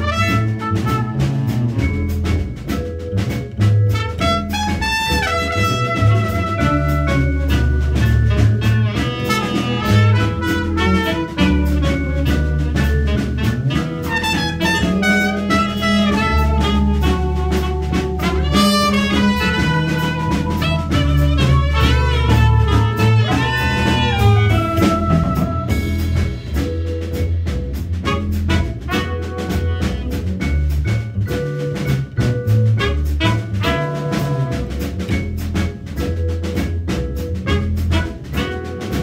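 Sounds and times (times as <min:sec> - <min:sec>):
trumpet melody: 0:00.0 - 0:03.0, 0:03.8 - 0:26.9, 0:28.0 - 0:30.9, 0:32.4 - 0:35.1, 0:37.3 - 0:39.0
vibraphone: 0:00.0 - 0:38.9
drum kit: 0:00.0 - 0:39.0
plucked upright bass: 0:00.0 - 0:39.0.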